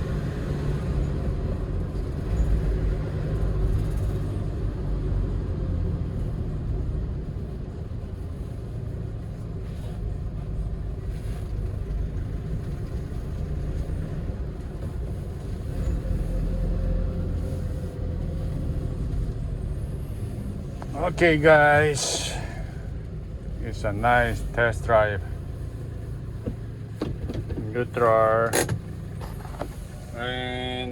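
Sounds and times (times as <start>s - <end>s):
truck engine and road rumble: 0.0s - 30.9s.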